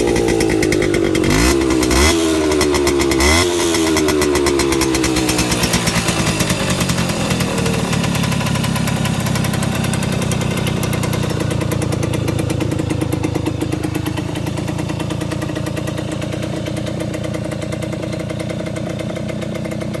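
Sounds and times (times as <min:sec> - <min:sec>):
moped engine idling: 0:00.0 - 0:20.0.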